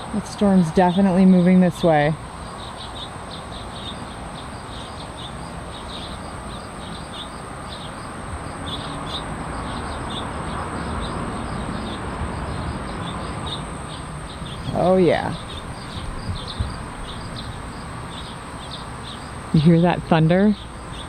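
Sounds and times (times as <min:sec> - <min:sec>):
crickets chirping: 0:00.0 - 0:21.0
high insect whine: 0:00.0 - 0:21.0.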